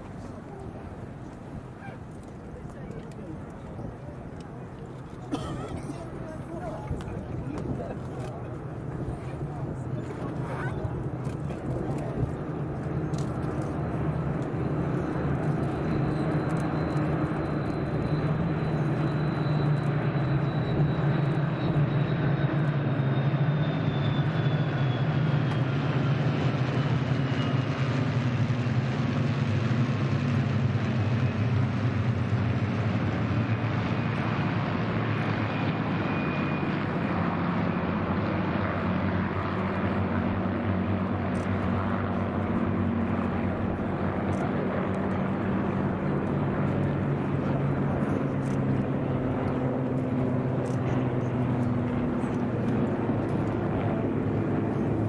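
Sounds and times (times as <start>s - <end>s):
aircraft piston engines droning: 0.0s - 55.0s.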